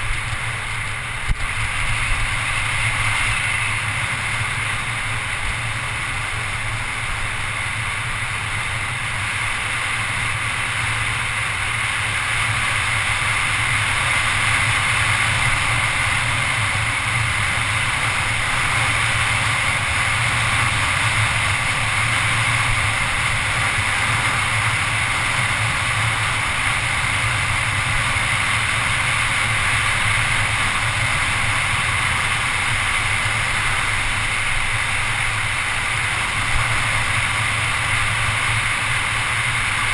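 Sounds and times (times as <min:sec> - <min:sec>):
bike tyres rolling on asphalt: 0:00.0 - 0:39.9.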